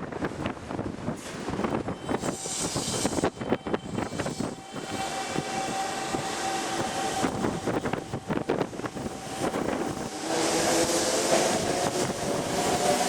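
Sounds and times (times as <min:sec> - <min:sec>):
electric train motor whine: 0:01.6 - 0:13.0.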